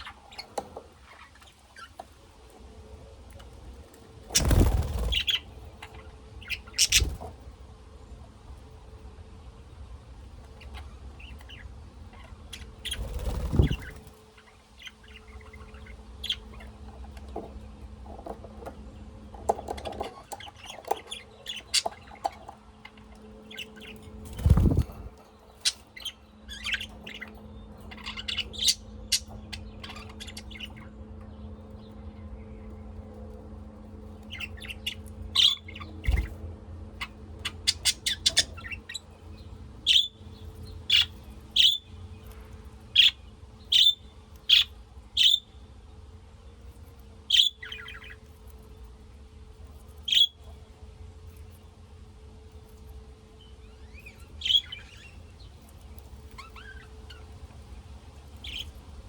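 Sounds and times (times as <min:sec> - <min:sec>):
cage birds chirping: 0:00.0 - 0:59.0
faint steady hum: 0:00.0 - 0:59.0.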